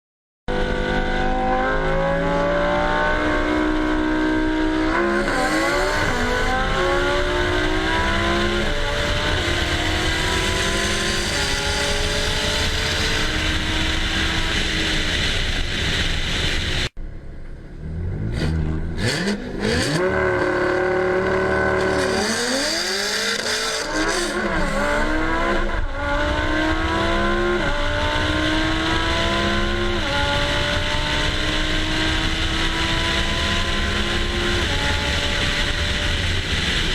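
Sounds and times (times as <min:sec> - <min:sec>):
car engine accelerating: 0:00.5 - 0:36.9.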